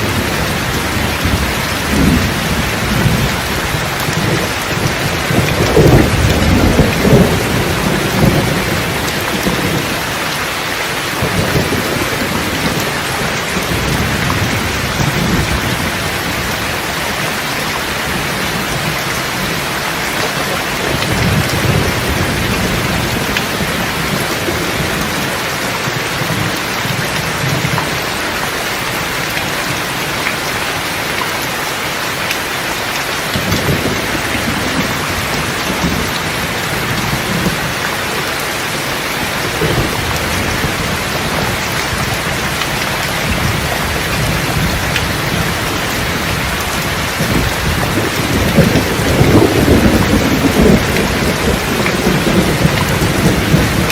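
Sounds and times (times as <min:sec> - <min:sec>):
rolling thunder: 0:00.0 - 0:10.2, 0:11.0 - 0:28.2, 0:33.4 - 0:37.8, 0:38.8 - 0:53.9
heavy rain: 0:00.0 - 0:53.9.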